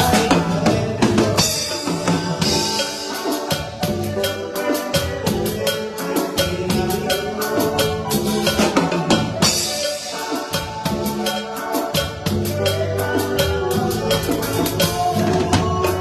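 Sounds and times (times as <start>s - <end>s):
bass: 0.0s - 16.0s
drum kit beat: 0.0s - 16.0s.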